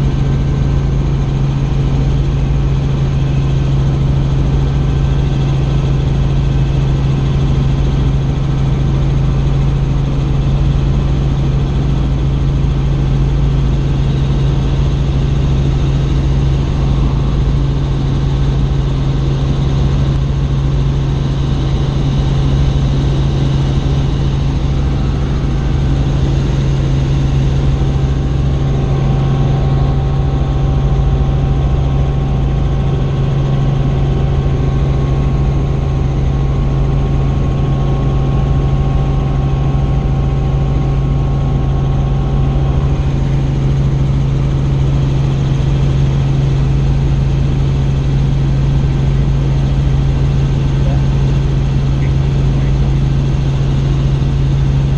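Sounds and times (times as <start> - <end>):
helicopter engine and rotors: 0.0 - 54.9.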